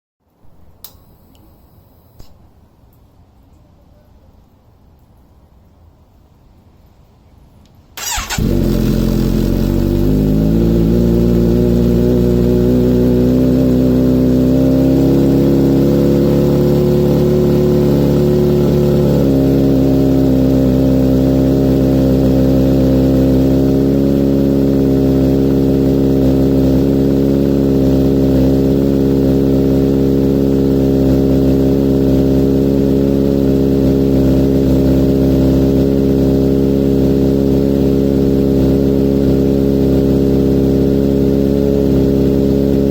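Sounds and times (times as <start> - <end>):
motorcycle engine idling: 8.0 - 42.9.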